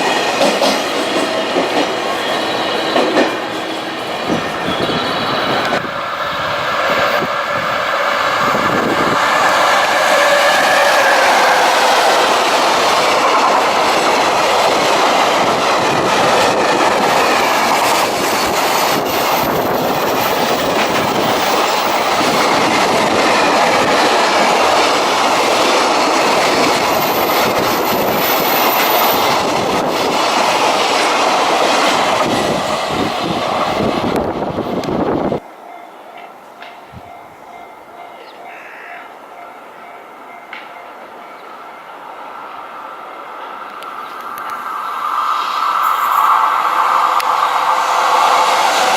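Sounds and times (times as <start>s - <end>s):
train wheels clacking on rails: 0.0s - 35.0s, 43.6s - 48.9s
locomotive whine: 0.0s - 48.9s.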